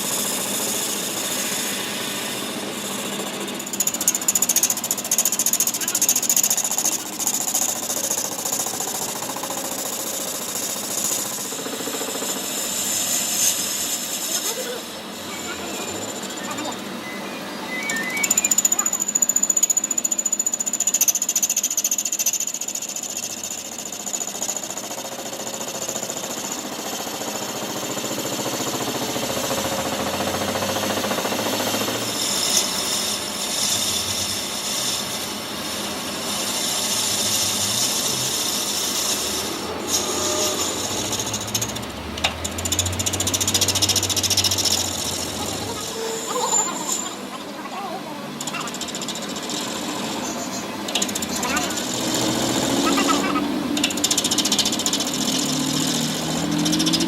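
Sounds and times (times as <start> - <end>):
power tool rattling on metal: 0.0 - 16.6, 18.5 - 57.0.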